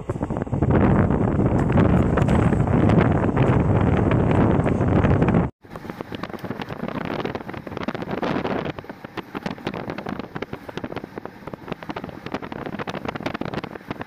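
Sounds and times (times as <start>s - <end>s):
train running with clicks and rattles: 0.0s - 14.0s
wind buffeting microphone: 0.0s - 14.0s.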